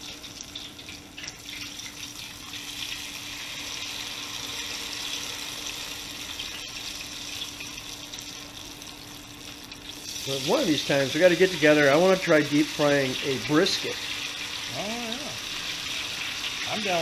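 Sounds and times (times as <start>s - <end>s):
deep frying sizzle: 0.0s - 17.0s.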